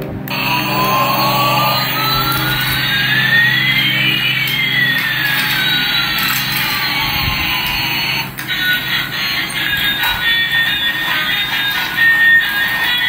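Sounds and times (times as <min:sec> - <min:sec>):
toy jet-engine sound effect: 0:00.3 - 0:13.0.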